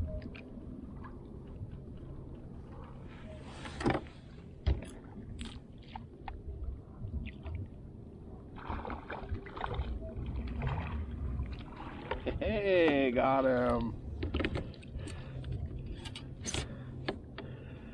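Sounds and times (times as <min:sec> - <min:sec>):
wind rumble on microphone: 0:00.0 - 0:17.9.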